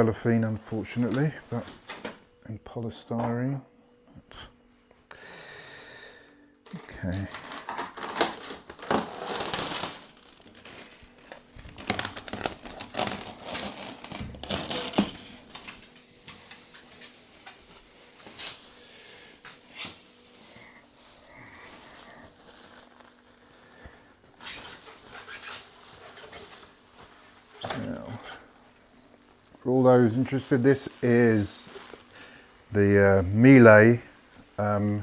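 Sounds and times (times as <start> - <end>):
cellophane wrap crinkling: 0.6 - 2.2, 6.6 - 34.6.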